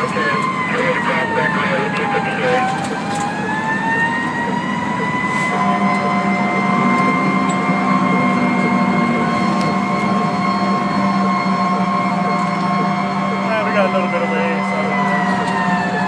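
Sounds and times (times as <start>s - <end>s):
emergency vehicle siren wailing: 0.0s - 16.0s
vehicle engine droning: 0.0s - 16.0s.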